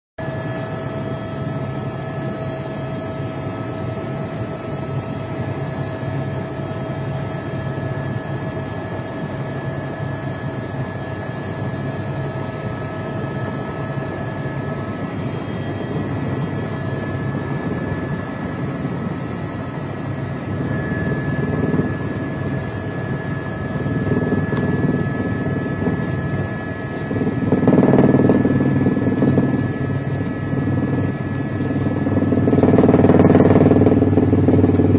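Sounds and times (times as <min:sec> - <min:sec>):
helicopter engine and rotors: 0:00.2 - 0:34.9.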